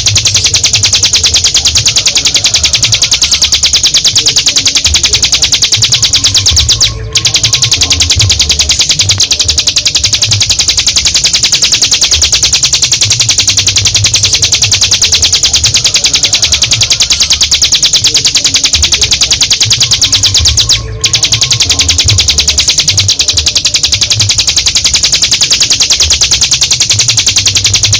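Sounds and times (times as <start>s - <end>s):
bird singing rapid high trill: 0.0s - 27.9s.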